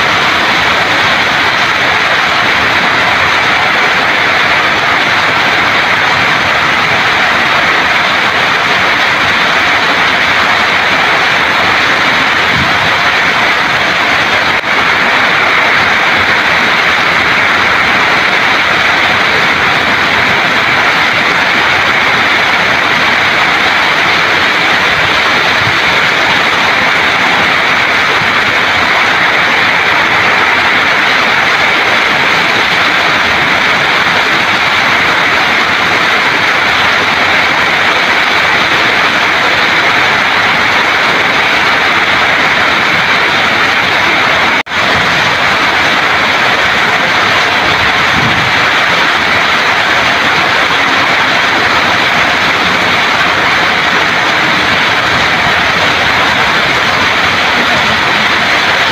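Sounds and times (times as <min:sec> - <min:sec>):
heavy rain downpour: 0:00.0 - 0:58.9.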